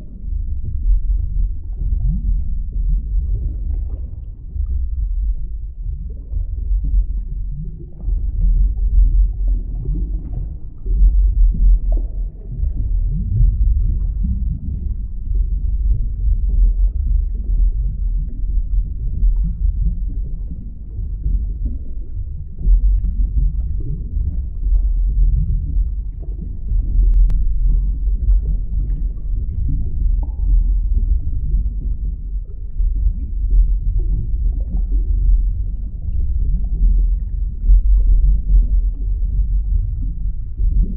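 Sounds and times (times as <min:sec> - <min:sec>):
underwater rumble: 0:00.0 - 0:40.9.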